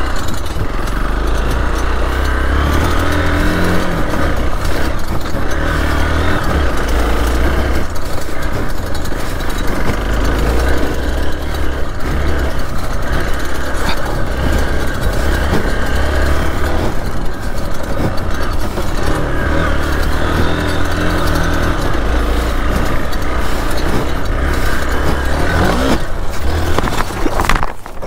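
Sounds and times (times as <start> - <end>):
dirt motorcycle engine revving: 0.0 - 28.0.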